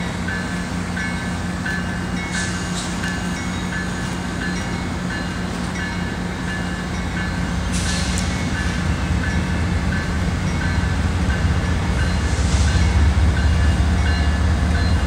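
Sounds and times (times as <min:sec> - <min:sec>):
locomotive bell ringing: 0:00.0 - 0:15.0
locomotive engine drone: 0:00.0 - 0:15.0.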